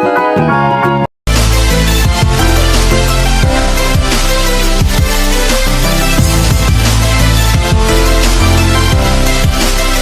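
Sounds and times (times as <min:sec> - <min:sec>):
electronic music with heavy bass: 0:00.4 - 0:10.0.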